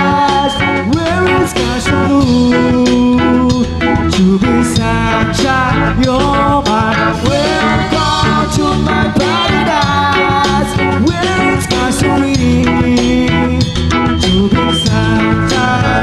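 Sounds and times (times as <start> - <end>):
live reggae-ska band: 0.0 - 16.0
man singing into a microphone: 0.0 - 16.0.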